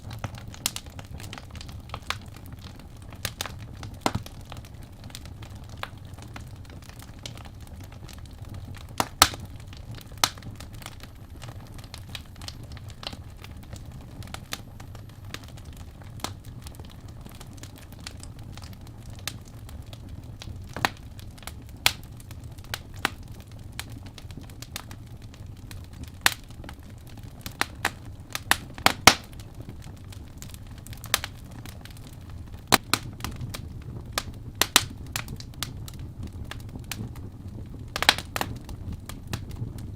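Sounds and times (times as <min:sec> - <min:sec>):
fire crackling and popping: 0:00.0 - 0:39.9
flames low rumble: 0:00.0 - 0:39.9.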